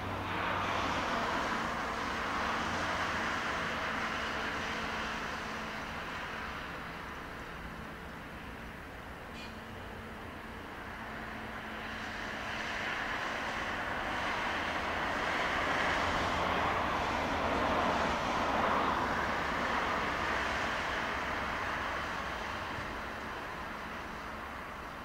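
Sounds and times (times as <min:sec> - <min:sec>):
electric train running on rails: 0:00.0 - 0:25.0.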